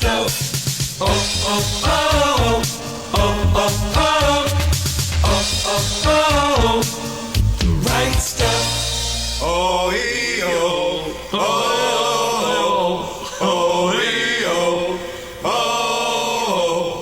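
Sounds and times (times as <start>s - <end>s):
men singing wordless vocals: 0.0s - 17.0s.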